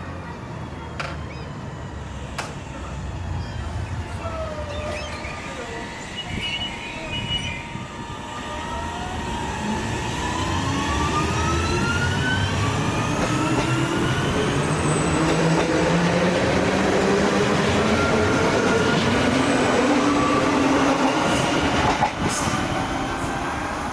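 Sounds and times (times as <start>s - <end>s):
electric train motors whining: 1.0s - 23.9s.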